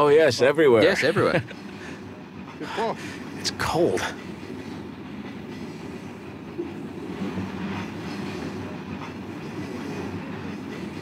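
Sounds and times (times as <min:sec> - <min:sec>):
train wagons rumbling: 0:00.0 - 0:11.0.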